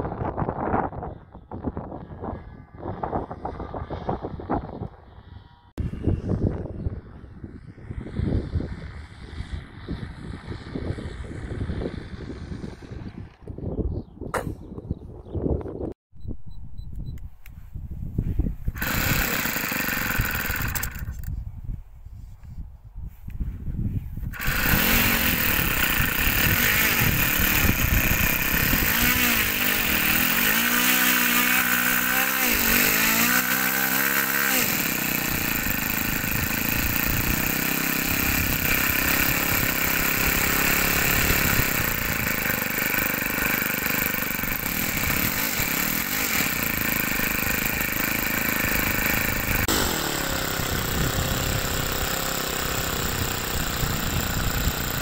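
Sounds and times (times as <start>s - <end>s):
model airplane engine running: 0.0s - 13.6s, 18.7s - 21.4s, 24.3s - 55.0s.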